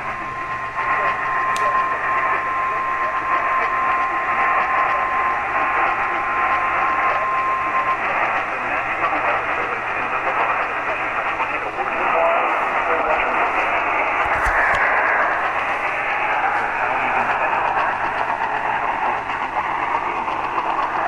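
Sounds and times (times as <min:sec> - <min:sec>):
radio static hiss: 0:00.0 - 0:21.0
steady alarm tone: 0:00.0 - 0:21.0.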